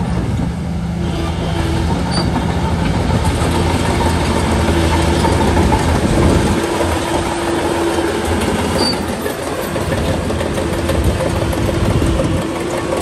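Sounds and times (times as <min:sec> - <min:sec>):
bulldozer diesel engine: 0:00.0 - 0:13.0
tracks rattling: 0:00.0 - 0:13.0.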